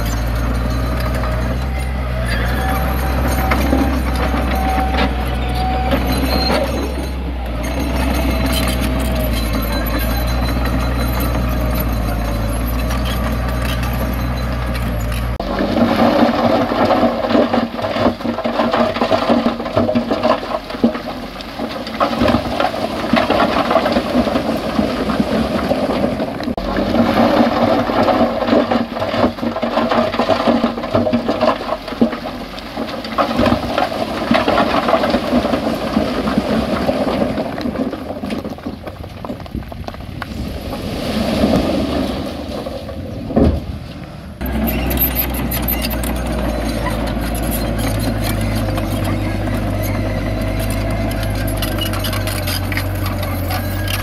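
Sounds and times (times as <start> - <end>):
stones sliding and tumbling: 0.0 - 54.0.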